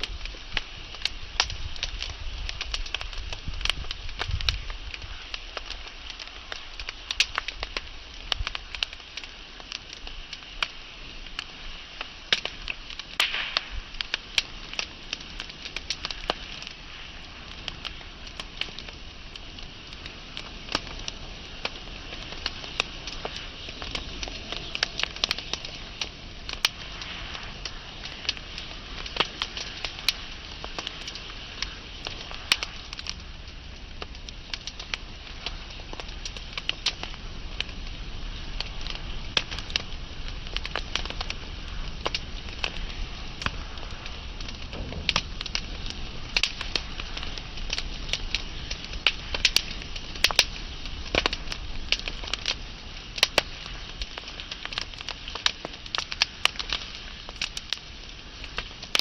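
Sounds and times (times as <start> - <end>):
fire crackling and popping: 0.0 - 59.0
wood fire hissing: 0.0 - 59.0.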